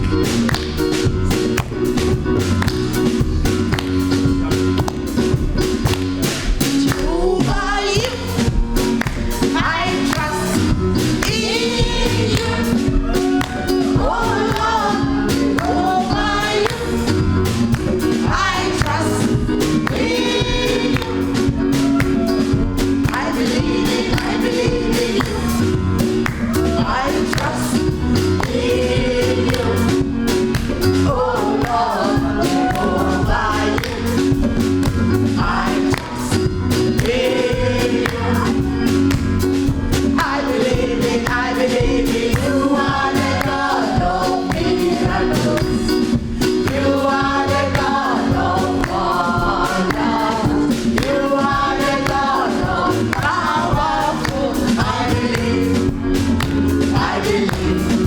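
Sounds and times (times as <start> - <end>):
gospel choir singing: 0.0 - 58.0
live band playing: 0.0 - 58.0
steady drum beat: 0.0 - 58.0.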